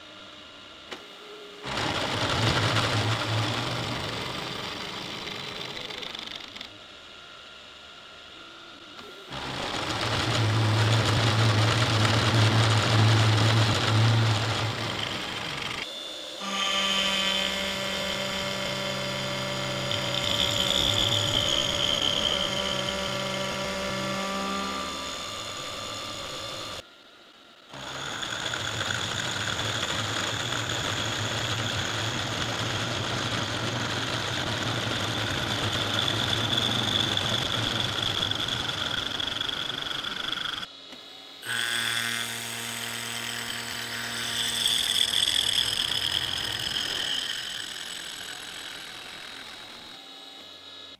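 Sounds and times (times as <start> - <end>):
milling machine whine: 0.0 - 50.9.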